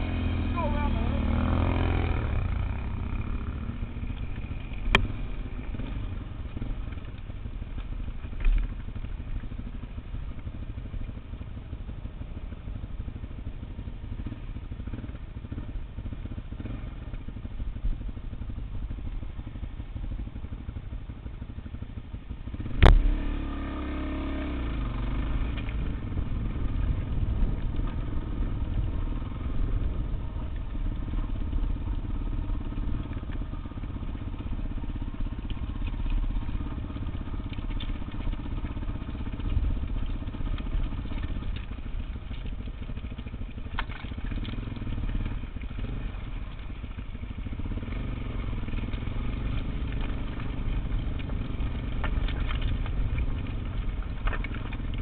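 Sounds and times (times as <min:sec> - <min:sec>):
motorcycle engine running: 0:00.0 - 0:55.0
tyres on loose gravel: 0:00.0 - 0:55.0.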